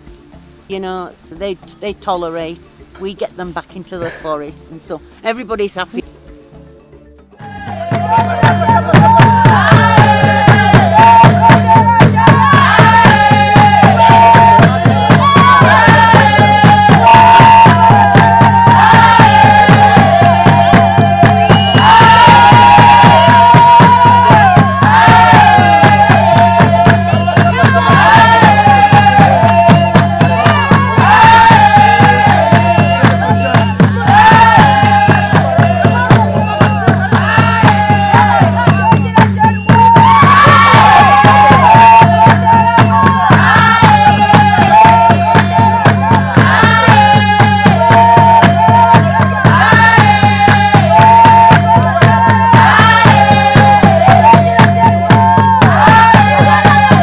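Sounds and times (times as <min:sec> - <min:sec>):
group of voices singing: 0:07.3 - 0:57.0
rhythmic hand-clapping: 0:07.4 - 0:57.0.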